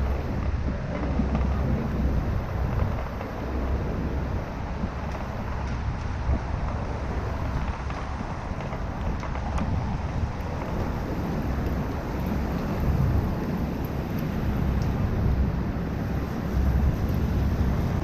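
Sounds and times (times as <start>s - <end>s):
city traffic: 0.0s - 18.0s
wind rumble on microphone: 0.0s - 18.0s.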